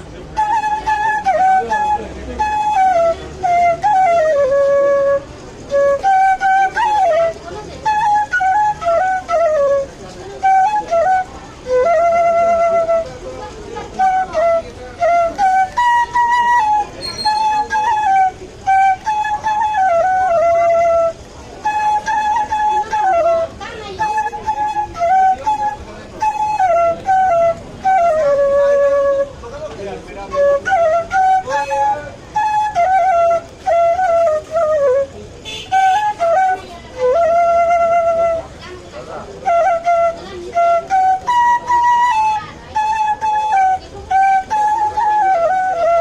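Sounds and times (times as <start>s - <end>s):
bamboo flute melody: 0.0s - 46.0s.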